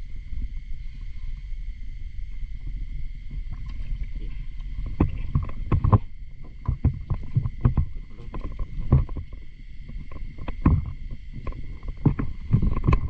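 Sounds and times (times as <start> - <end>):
faint high whine: 0.0 - 13.0
low rumble: 0.0 - 13.0.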